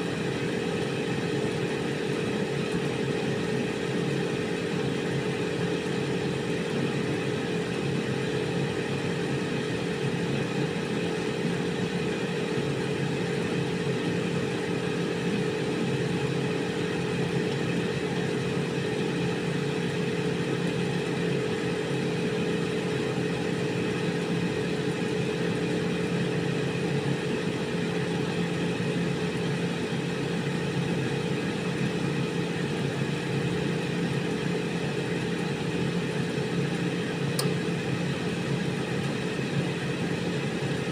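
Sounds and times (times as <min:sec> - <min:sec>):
air fryer fan humming: 0:00.0 - 0:40.9.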